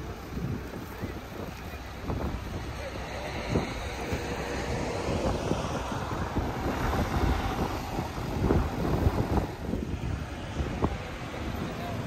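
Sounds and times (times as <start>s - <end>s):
diesel engine running: 0.0s - 12.0s
wind buffeting microphone: 0.0s - 12.0s.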